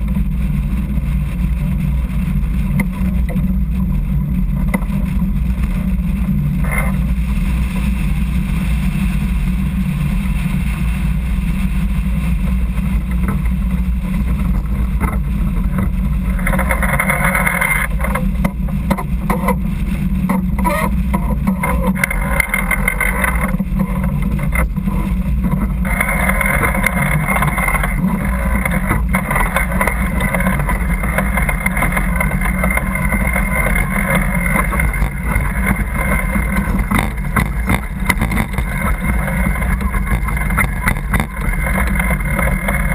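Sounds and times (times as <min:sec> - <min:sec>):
water splashing along hull: 0:00.0 - 0:42.9
wind rumble on microphone: 0:00.0 - 0:42.9.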